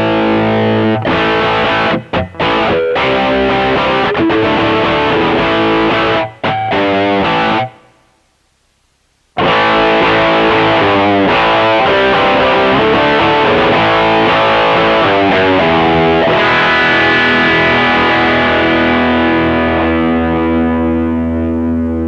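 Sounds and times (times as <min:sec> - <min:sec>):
distorted electric guitar: 0:00.0 - 0:22.0.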